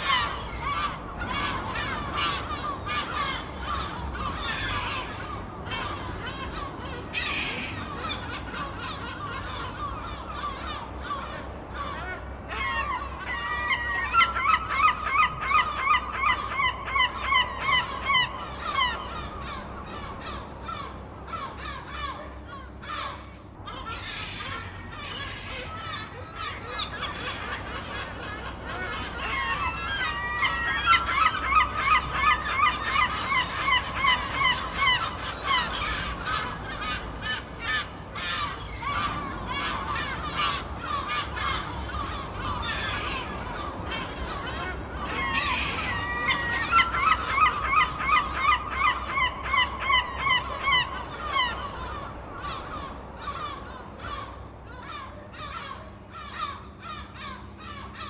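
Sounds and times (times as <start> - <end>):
seagulls squawking: 0.0 - 58.0.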